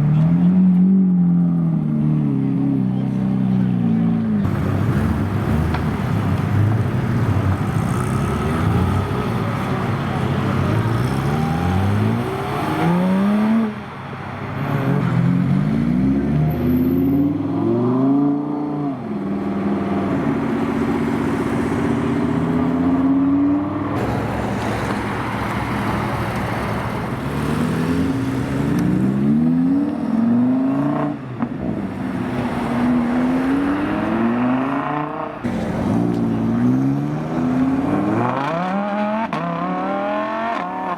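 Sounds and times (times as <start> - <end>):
supercar engines revving: 0.1 - 40.9.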